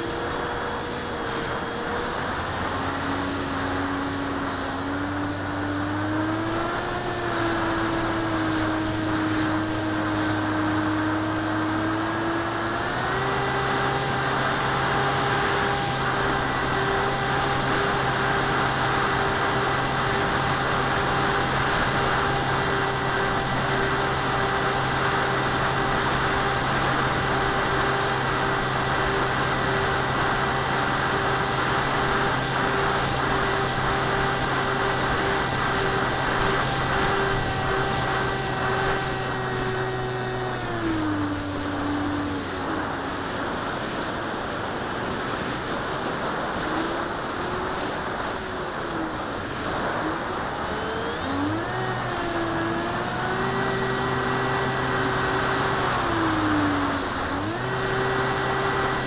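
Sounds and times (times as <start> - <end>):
model plane motor whining: 0.0 - 59.0
rushing air: 0.0 - 59.0.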